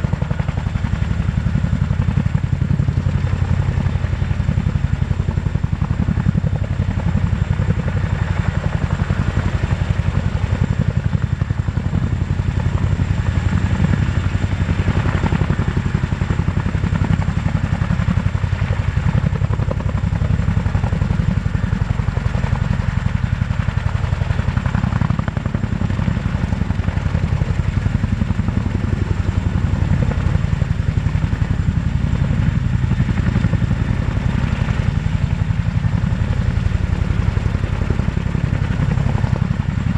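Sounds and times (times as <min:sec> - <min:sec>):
helicopter rotors chopping: 0:00.0 - 0:39.9.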